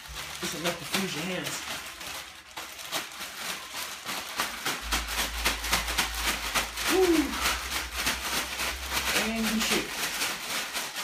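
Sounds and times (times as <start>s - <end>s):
ice rattling in a shaken bag: 0.0s - 11.0s
plastic bag crinkling: 0.0s - 11.0s.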